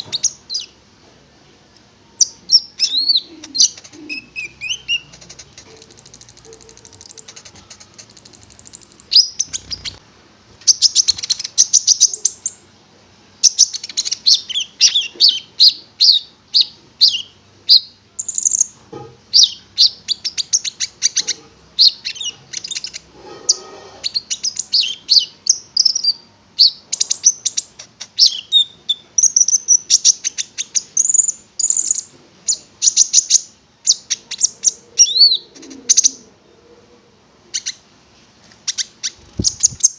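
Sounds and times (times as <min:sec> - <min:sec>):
songbird chirping and trilling: 0:00.0 - 0:00.8, 0:02.0 - 0:10.0, 0:10.7 - 0:12.7, 0:13.4 - 0:37.8, 0:38.6 - 0:39.9.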